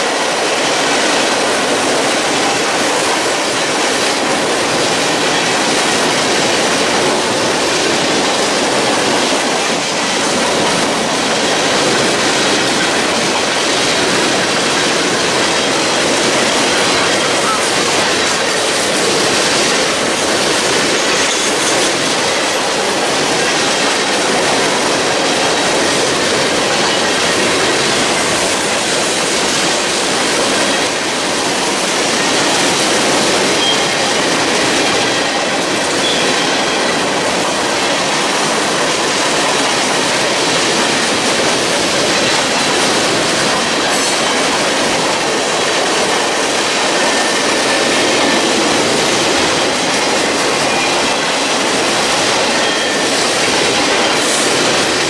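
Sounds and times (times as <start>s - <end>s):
steel wheels running on rails: 0.0s - 55.0s.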